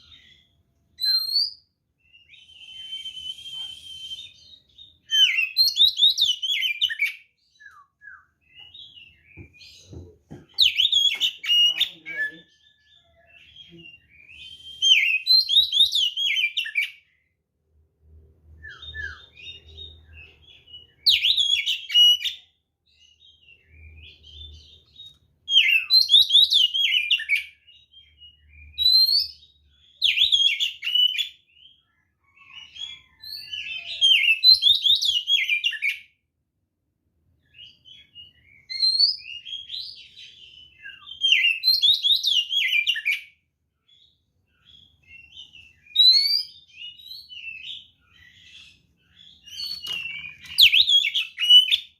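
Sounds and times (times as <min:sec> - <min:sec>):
bird singing whistled notes: 0:00.0 - 0:10.0, 0:10.6 - 0:17.1, 0:18.5 - 0:36.1, 0:37.5 - 0:51.9.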